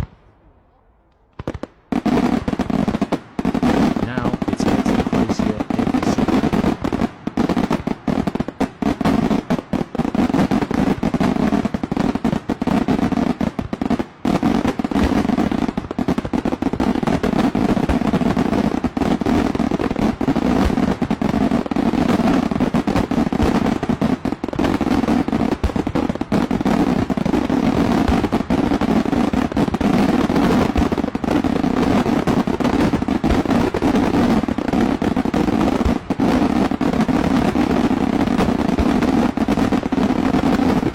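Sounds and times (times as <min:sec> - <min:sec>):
fireworks barrage: 0:00.0 - 0:40.9.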